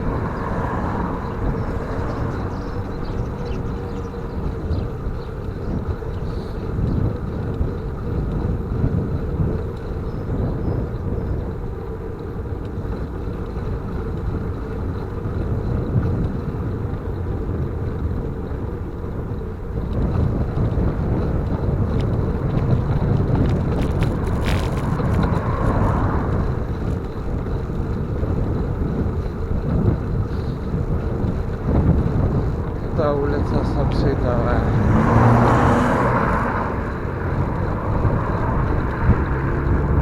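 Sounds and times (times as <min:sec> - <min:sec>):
road noise: 0:00.0 - 0:40.0
wind rumbling over microphone: 0:00.0 - 0:40.0.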